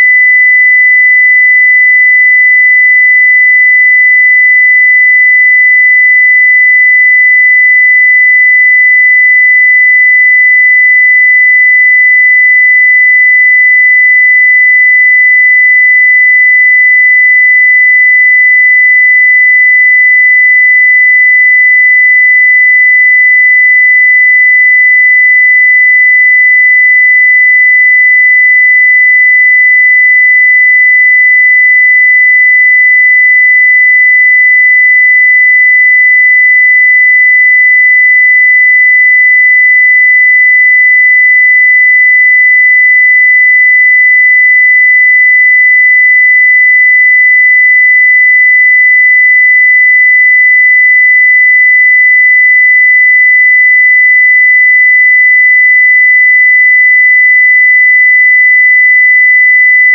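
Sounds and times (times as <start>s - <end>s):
sine-wave test tone: 0.0s - 59.9s.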